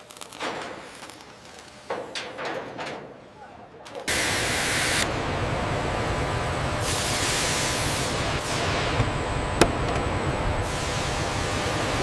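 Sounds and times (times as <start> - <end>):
low industrial hum: 0.1 - 12.0.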